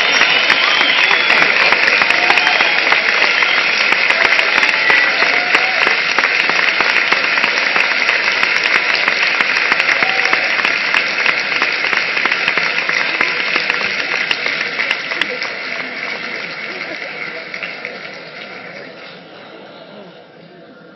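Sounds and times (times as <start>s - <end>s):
audience applauding: 0.0s - 20.1s.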